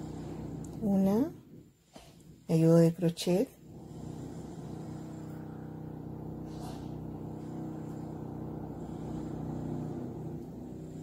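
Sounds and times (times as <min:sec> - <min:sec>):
low motor hum: 0:00.0 - 0:01.6, 0:03.6 - 0:11.0.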